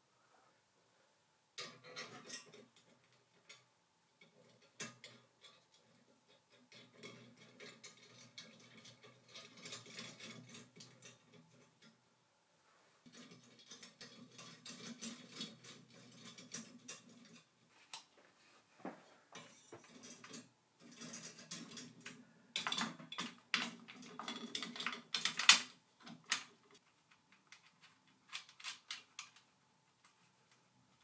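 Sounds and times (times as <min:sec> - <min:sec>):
metal clicks and rattles: 0:01.6 - 0:12.0, 0:13.0 - 0:18.1, 0:19.4 - 0:30.6.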